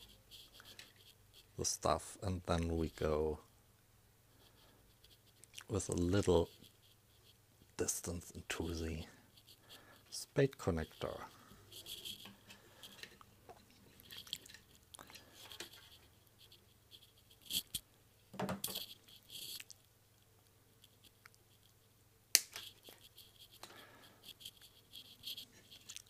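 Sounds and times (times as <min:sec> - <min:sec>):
rustling of wire and small parts: 0:00.0 - 0:03.4, 0:04.4 - 0:17.8, 0:18.4 - 0:21.9, 0:22.5 - 0:26.0.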